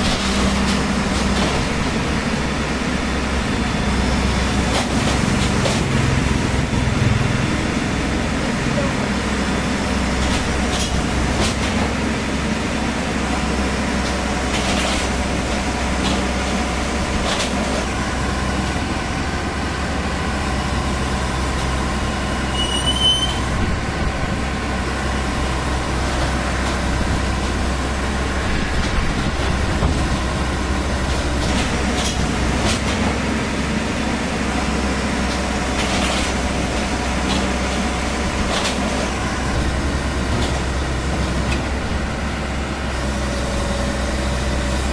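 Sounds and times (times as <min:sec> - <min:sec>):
diesel engine idling: 0:00.0 - 0:14.5, 0:15.1 - 0:22.5, 0:23.4 - 0:44.9.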